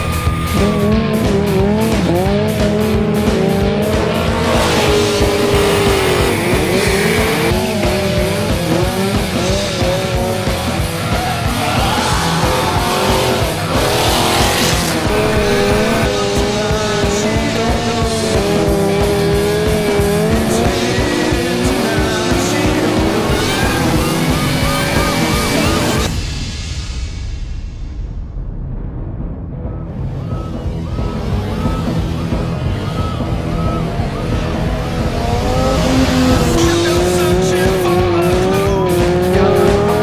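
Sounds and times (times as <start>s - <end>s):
engines revving: 0.0s - 26.2s, 30.2s - 40.0s
rock background music: 0.0s - 40.0s.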